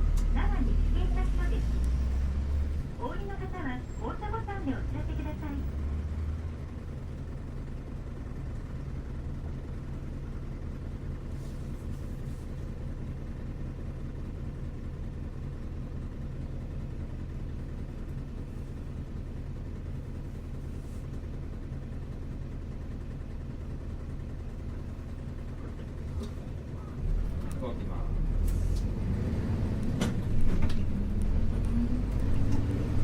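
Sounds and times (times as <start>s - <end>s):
bus diesel engine idling: 0.0s - 33.0s.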